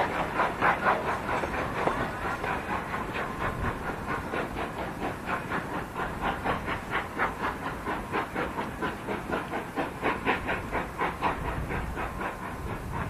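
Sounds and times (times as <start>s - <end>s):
steam locomotive exhaust beats: 0.0s - 13.0s.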